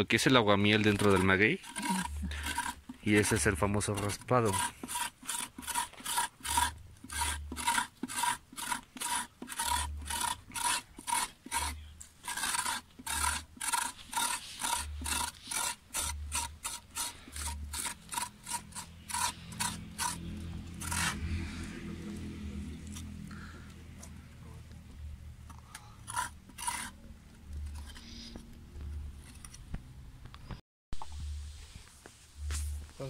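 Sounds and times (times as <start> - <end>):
hand scraper rasping plant: 0.0 - 24.3, 25.4 - 29.7.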